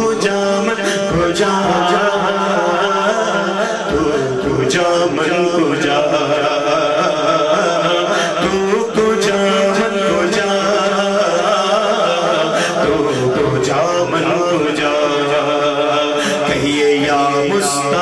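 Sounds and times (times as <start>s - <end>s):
man singing through sound system: 0.0s - 18.0s.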